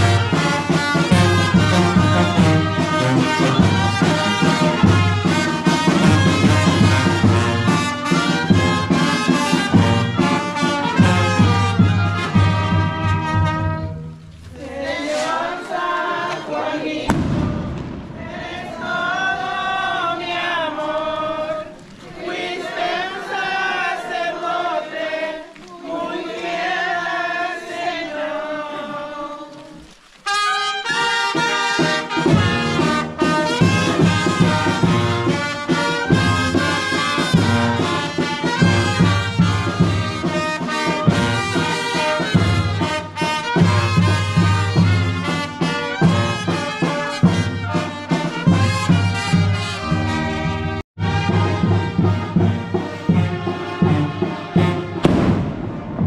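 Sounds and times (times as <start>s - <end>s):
brass band playing: 0.0s - 29.3s, 30.2s - 56.0s.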